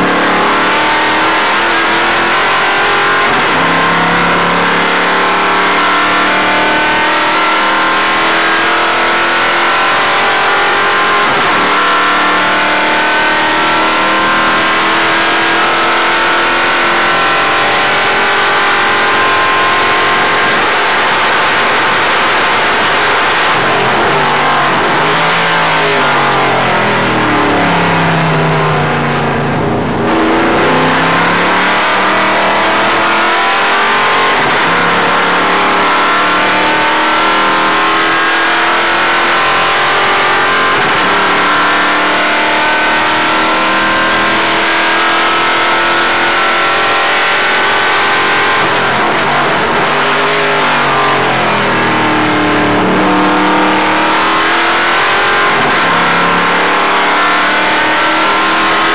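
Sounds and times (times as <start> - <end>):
race car engine: 0.0 - 58.9.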